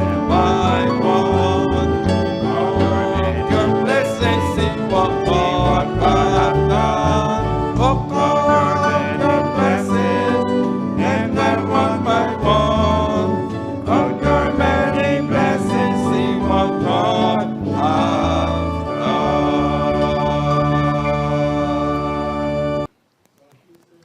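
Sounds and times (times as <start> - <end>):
hymn on piano and organ: 0.0 - 22.9
voices singing: 0.0 - 22.9.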